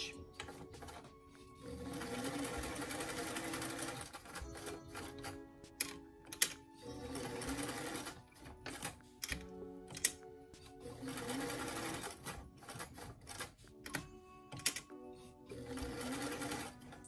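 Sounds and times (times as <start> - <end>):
sewing machine stitching: 0.0 - 10.2, 10.8 - 14.8, 15.5 - 17.0.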